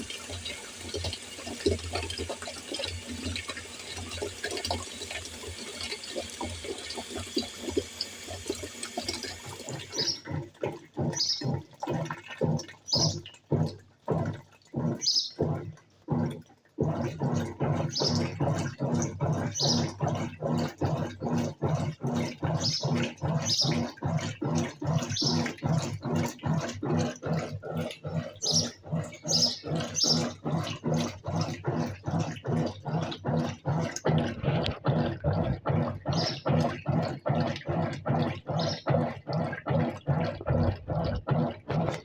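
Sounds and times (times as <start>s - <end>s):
washing machine agitator churning: 0.0s - 42.0s.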